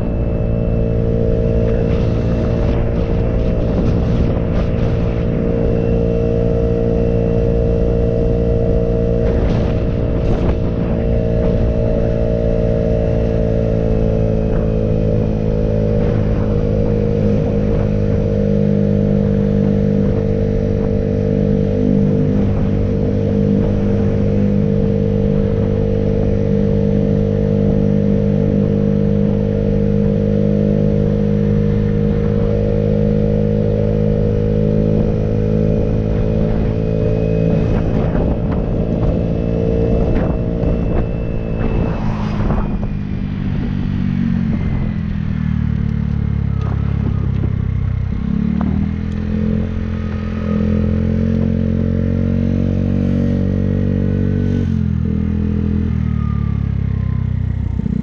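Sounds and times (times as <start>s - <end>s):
road noise: 0.0s - 58.0s
vehicle engine cruising: 0.0s - 58.0s
wind noise: 0.0s - 58.0s.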